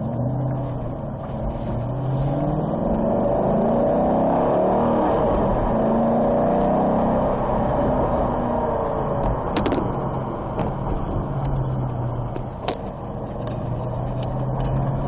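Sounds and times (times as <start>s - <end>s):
car engine drone from cabin: 0.0s - 15.0s.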